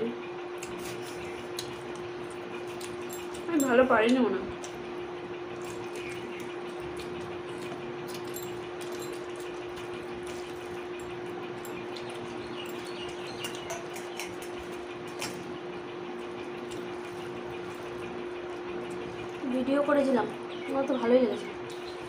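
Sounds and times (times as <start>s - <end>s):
appliance hum: 0.0s - 22.0s.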